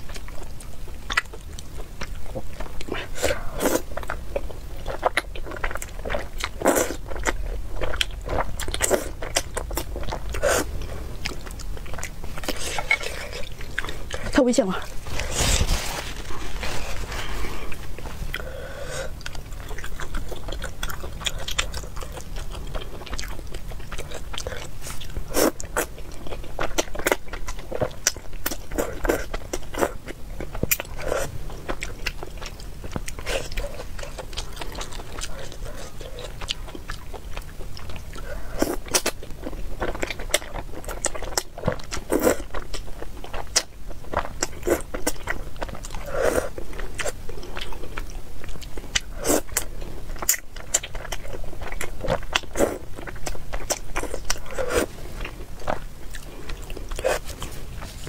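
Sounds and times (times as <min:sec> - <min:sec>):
person chewing noodles: 0:00.0 - 0:58.0.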